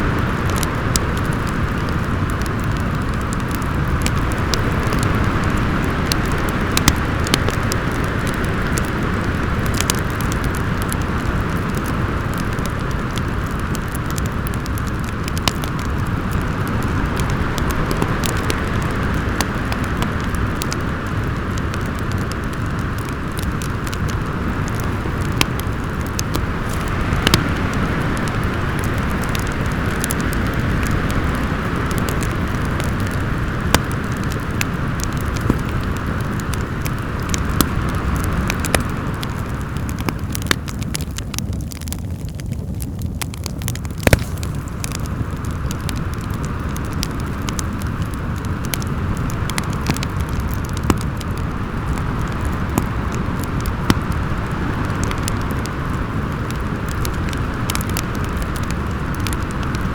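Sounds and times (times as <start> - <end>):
storm wind blowing: 0.0 - 59.9
wood fire crackling: 0.0 - 59.9.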